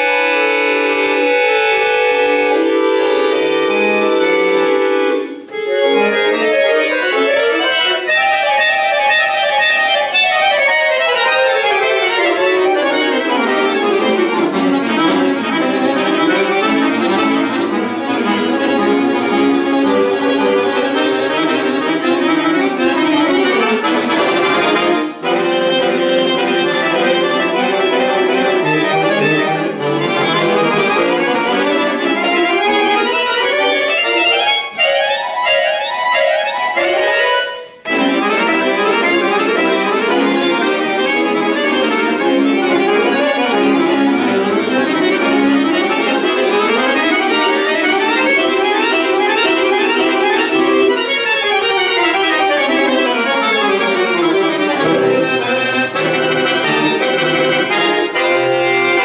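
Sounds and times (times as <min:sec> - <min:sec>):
button accordion playing: 0:00.0 - 0:59.0.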